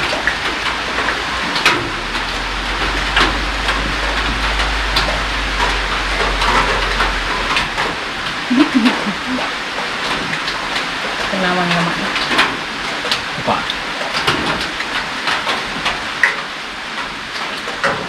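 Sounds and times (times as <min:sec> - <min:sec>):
rain on a roof: 0:00.0 - 0:18.0.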